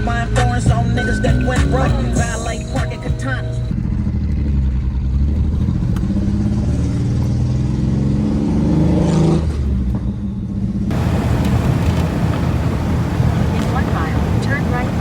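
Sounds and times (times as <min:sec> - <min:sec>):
truck engine revving: 0:00.0 - 0:09.8, 0:10.7 - 0:15.0.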